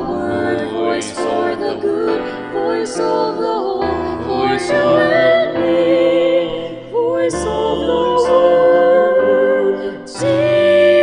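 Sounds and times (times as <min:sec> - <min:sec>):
instrumental accompaniment: 0:00.0 - 0:11.0
person singing theme song: 0:00.0 - 0:11.0.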